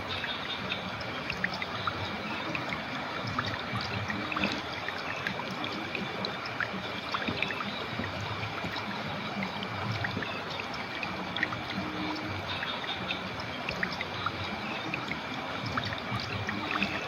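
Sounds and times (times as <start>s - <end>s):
river water flowing over stones: 0.0s - 17.0s
water bubbling and splashing: 0.0s - 17.0s.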